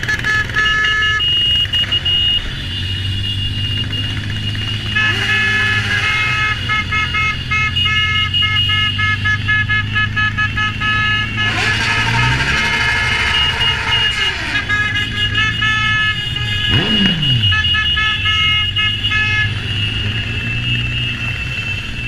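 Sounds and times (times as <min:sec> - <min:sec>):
motorcycle engines running: 0:00.0 - 0:22.0
vehicle horns tooting: 0:00.0 - 0:22.0.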